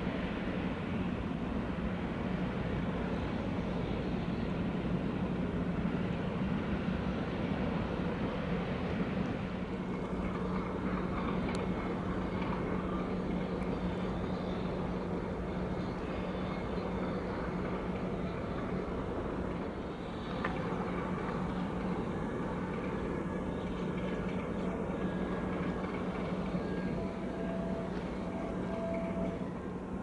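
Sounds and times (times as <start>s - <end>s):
ship engines droning: 0.0s - 30.0s.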